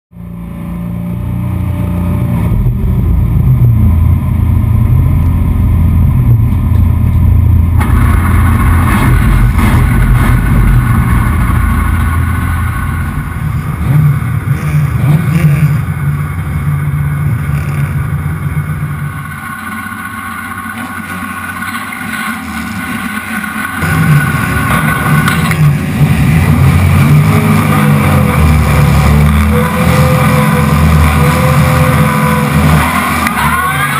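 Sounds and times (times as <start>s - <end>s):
deep loud car engines: 0.1s - 33.9s.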